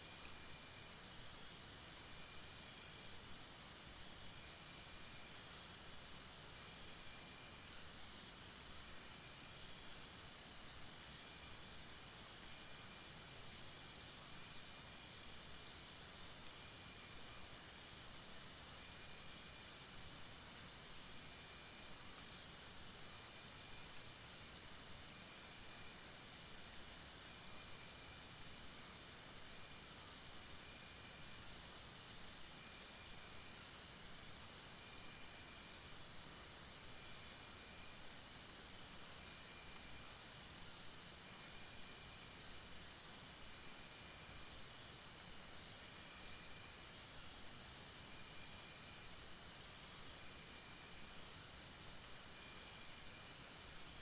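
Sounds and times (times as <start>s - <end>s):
insects trilling: 0.1s - 54.0s.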